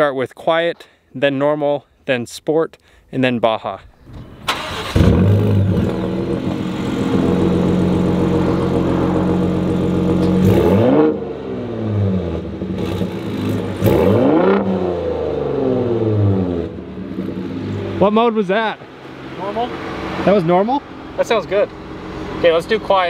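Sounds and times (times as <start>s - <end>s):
car engine idling and revving: 4.1s - 23.0s.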